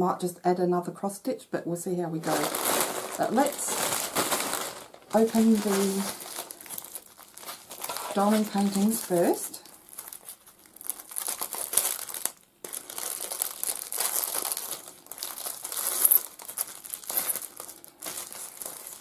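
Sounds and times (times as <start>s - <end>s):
plastic packaging crinkling: 2.2s - 19.0s.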